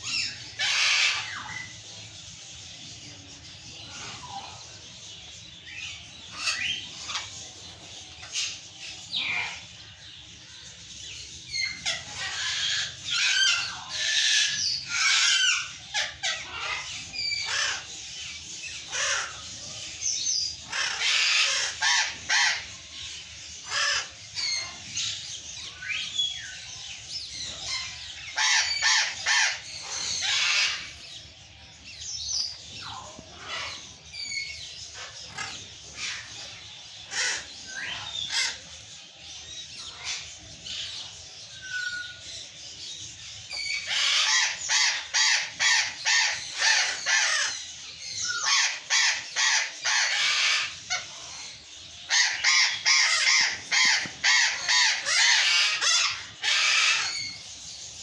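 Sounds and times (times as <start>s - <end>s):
parrots screaming: 0.0s - 1.8s, 3.4s - 4.7s, 5.7s - 42.7s, 43.5s - 58.0s.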